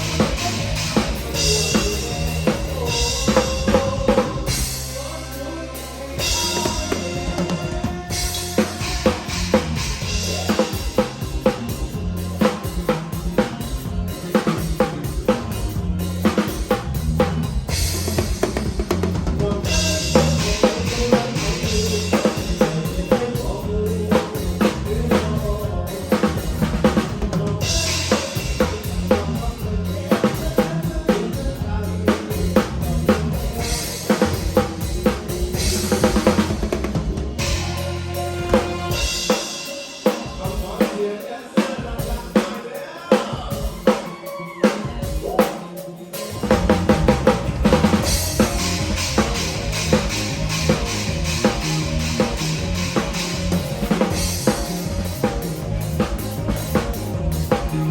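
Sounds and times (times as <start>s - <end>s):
bass line: 0.0s - 40.9s, 46.2s - 57.9s
drum kit playing: 0.0s - 57.9s.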